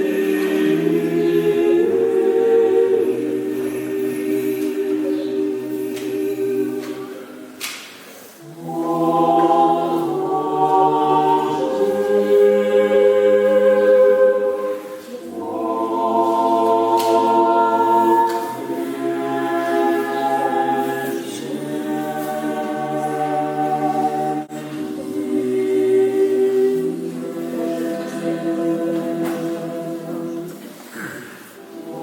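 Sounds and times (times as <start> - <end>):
choir singing unaccompanied chant: 0.0 - 32.0.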